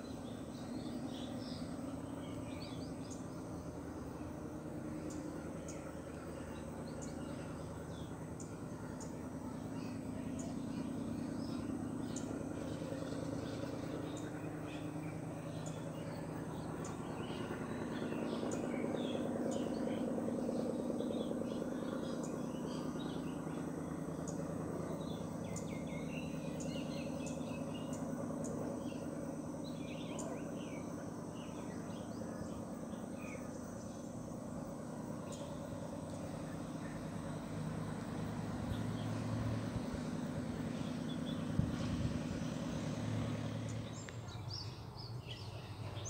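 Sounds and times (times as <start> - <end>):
birds chirping: 0.0 - 46.0
low outdoor hum: 0.0 - 46.0.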